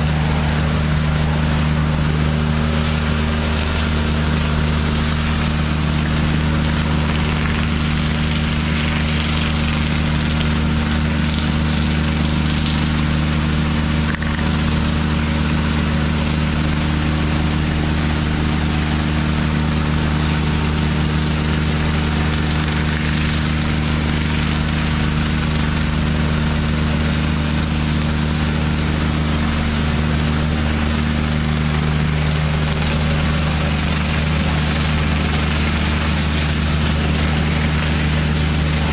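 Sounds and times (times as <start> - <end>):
diesel engine droning: 0.0 - 38.9
pressure washer water spraying on stone: 0.0 - 38.9.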